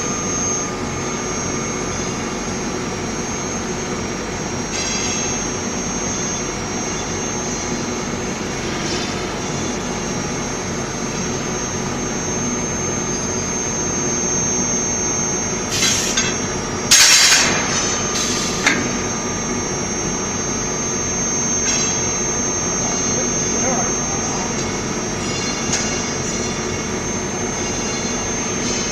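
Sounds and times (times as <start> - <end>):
industrial machinery hum: 0.0 - 28.9
thin high whine: 0.0 - 28.9.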